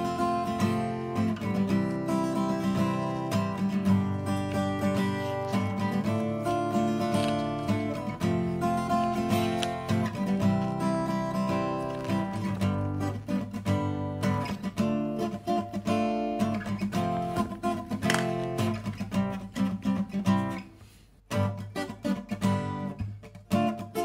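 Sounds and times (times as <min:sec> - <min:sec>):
strummed acoustic guitar chords: 0:00.0 - 0:24.0.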